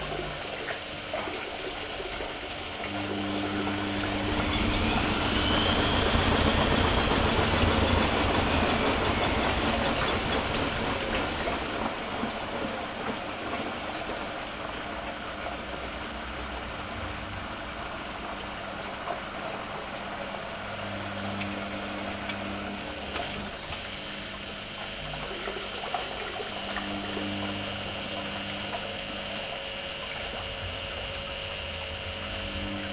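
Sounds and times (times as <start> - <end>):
low electric hum: 0.0 - 32.9
water running in washing machine: 0.0 - 32.9.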